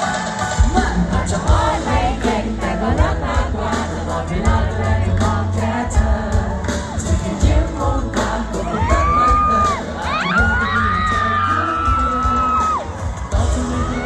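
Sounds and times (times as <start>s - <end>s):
live pop song singing: 0.0s - 14.0s
bass line: 0.6s - 14.0s.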